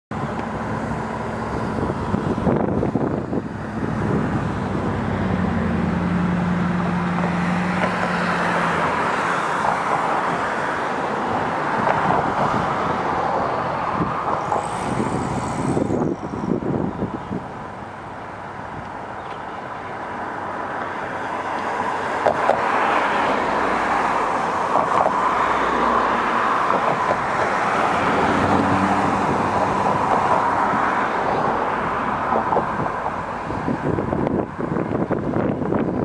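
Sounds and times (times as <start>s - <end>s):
diesel locomotive engine: 0.1s - 36.0s.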